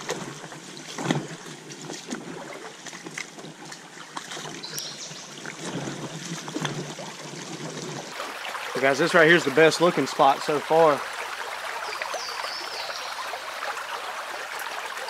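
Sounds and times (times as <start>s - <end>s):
creek water rippling over rocks: 0.0s - 15.0s.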